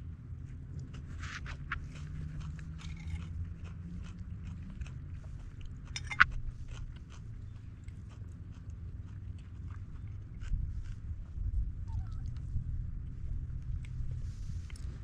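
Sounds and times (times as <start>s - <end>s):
person chewing crunchy food: 0.5s - 15.0s.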